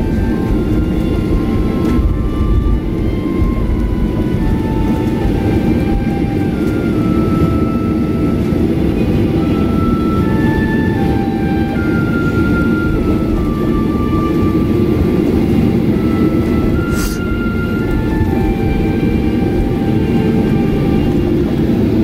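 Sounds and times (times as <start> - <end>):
aircraft engine and wheel rumble: 0.0 - 22.0.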